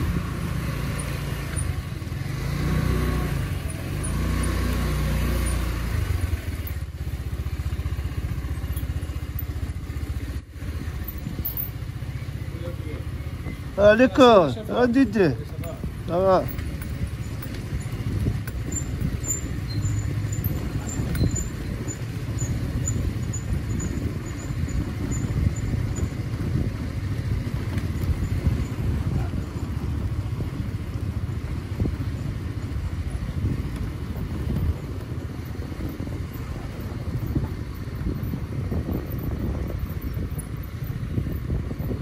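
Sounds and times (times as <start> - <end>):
steady low rumble: 6.2 - 42.0.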